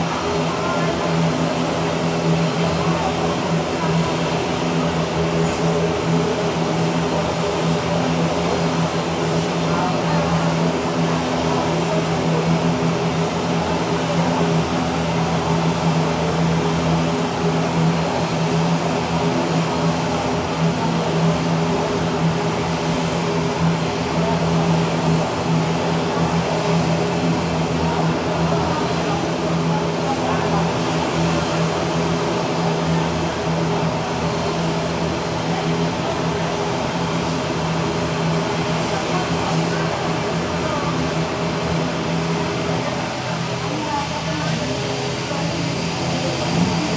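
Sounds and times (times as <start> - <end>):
turboprop engines droning: 0.0 - 46.9.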